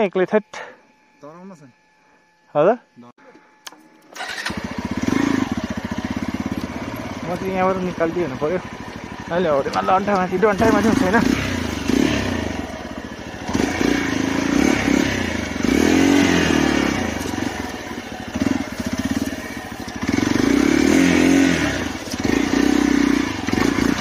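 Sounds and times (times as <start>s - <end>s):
motorcycle engine revving: 4.1s - 24.0s.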